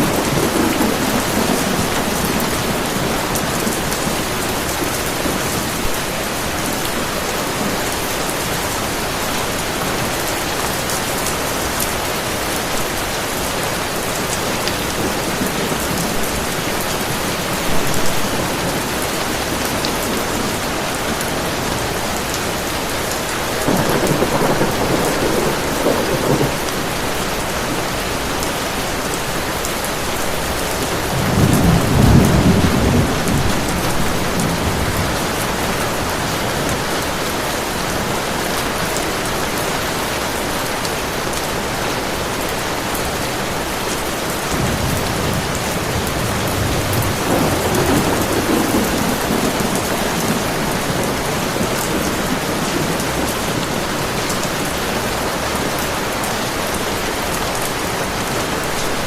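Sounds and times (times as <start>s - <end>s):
thunder rumbling: 0.0s - 38.2s, 44.4s - 57.3s
heavy rain: 0.0s - 59.0s.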